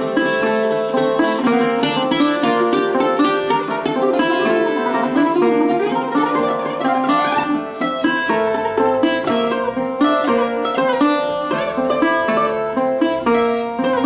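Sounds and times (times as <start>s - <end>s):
bouzoukis playing: 0.0s - 14.0s.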